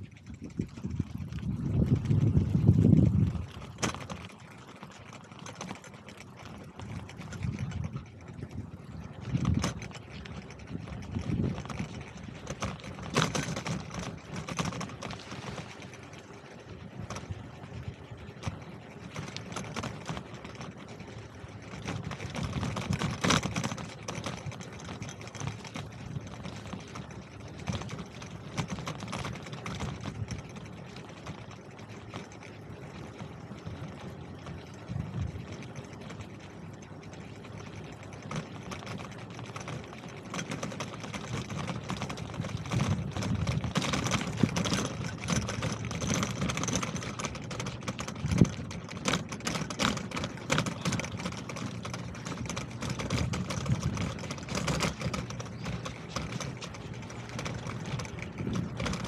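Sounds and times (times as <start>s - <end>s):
bicycle rolling and rattling: 0.0s - 59.0s.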